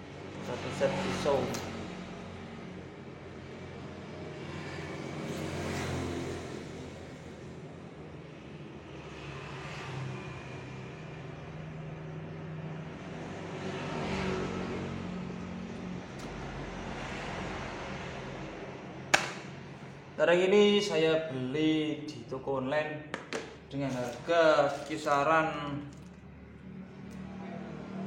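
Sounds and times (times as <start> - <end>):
passing traffic: 0.0 - 28.0.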